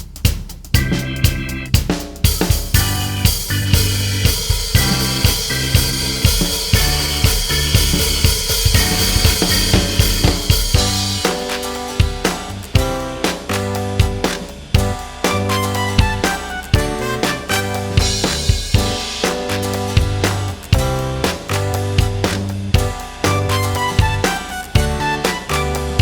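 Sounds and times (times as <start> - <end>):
upbeat music with drum beat: 0.0 - 26.0.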